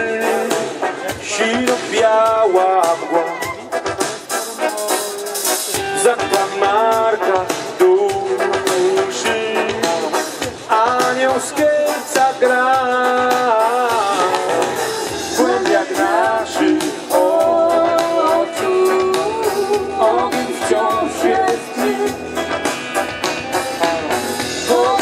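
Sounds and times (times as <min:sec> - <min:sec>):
drum kit beat: 0:00.0 - 0:25.0
electric guitar lead line: 0:00.0 - 0:25.0
live band playing: 0:00.0 - 0:25.0.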